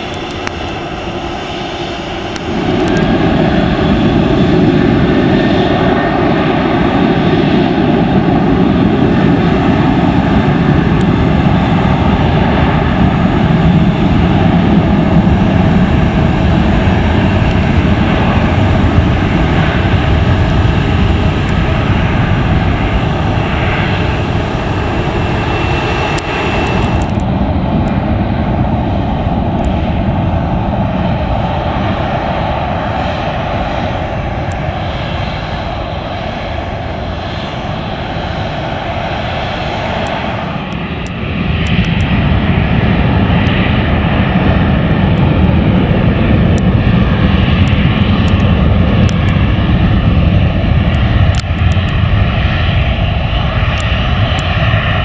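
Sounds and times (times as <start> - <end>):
jet engines at high power: 0.0 - 55.0
jet engines taxiing: 0.0 - 55.0.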